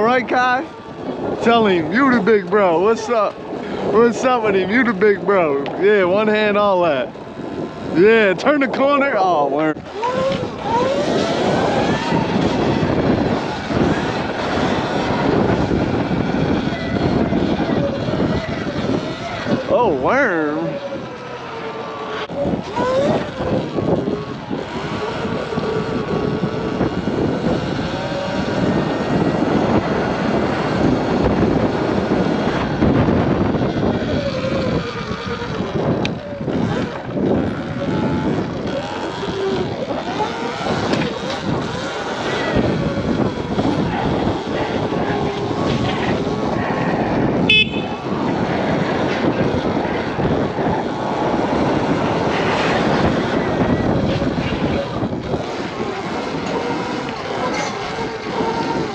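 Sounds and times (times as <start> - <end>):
wind noise on microphone: 0.0 - 58.9
electric motor whine: 8.7 - 58.9.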